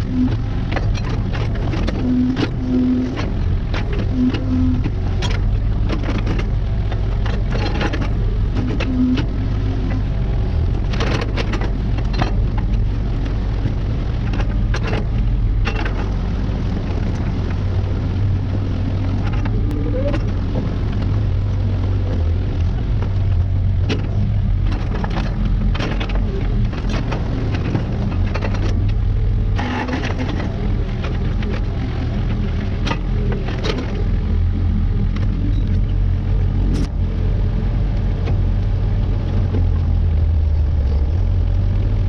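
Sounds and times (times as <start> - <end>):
diesel engine under load: 0.0 - 42.0.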